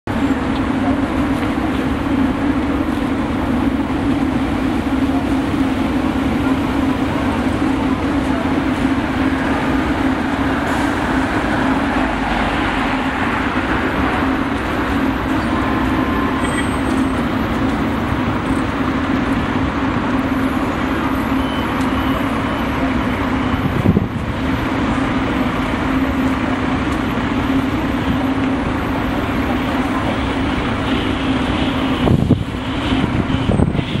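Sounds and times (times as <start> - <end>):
vehicle engine and road noise: 0.1 - 34.0.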